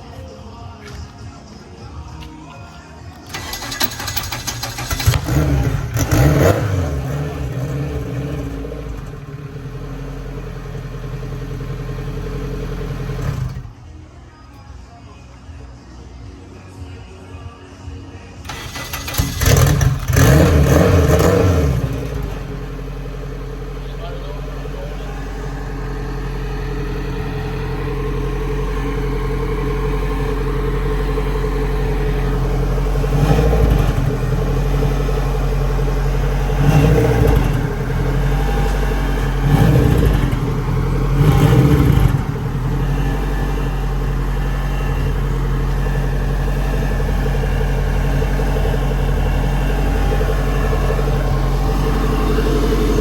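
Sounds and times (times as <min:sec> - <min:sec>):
car engine revving and idling: 0:03.2 - 0:13.9, 0:18.5 - 0:53.0.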